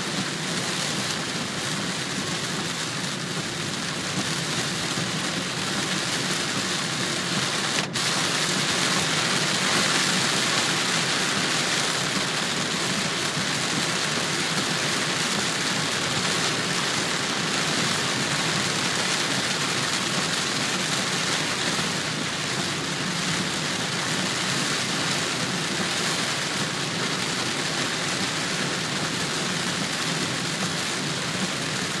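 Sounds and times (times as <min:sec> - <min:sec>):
heavy rain on car: 0:00.0 - 0:32.0.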